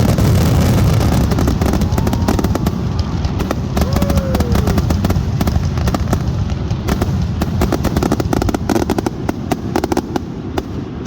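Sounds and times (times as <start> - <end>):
low booming: 0.0 - 9.2
fireworks crackling and popping: 0.0 - 11.0.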